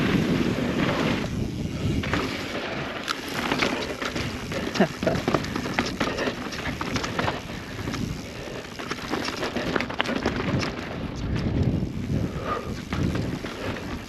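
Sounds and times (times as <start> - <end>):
wind buffeting microphone: 0.0 - 2.8, 3.9 - 14.0
bike clicks and rattles: 0.0 - 14.0.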